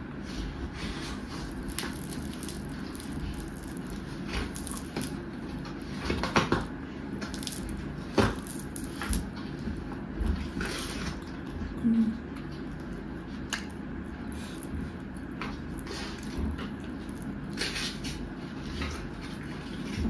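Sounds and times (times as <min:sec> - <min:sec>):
chewing with crunches: 0:01.2 - 0:20.0.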